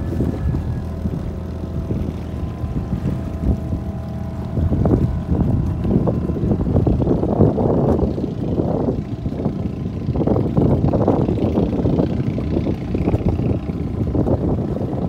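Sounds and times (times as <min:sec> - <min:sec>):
boat motor running: 0:00.0 - 0:15.0
wind gusting on microphone: 0:00.0 - 0:15.0.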